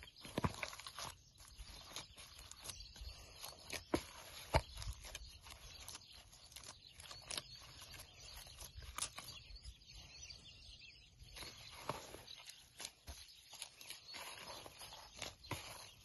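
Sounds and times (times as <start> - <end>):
gloved hand kneading dough: 0.0 - 16.0.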